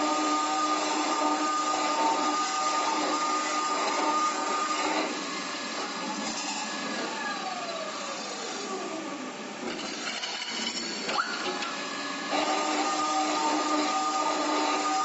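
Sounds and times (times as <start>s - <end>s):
pipe-cutting saw machine running: 0.0s - 15.0s.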